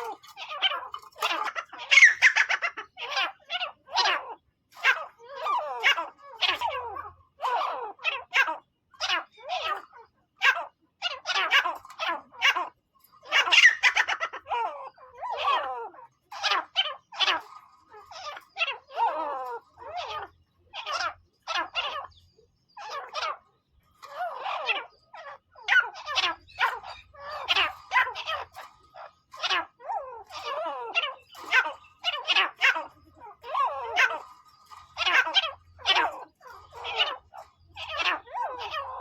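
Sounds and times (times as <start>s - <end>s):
francolin calling: 0.0s - 39.0s.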